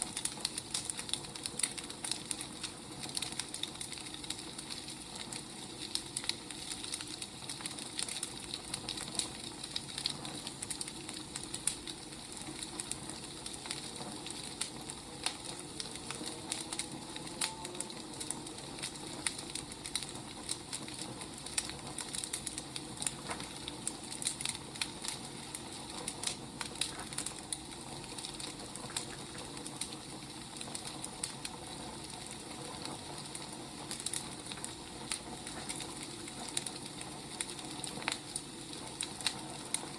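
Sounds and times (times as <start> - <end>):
wood fire crackling and hissing: 0.0 - 39.9.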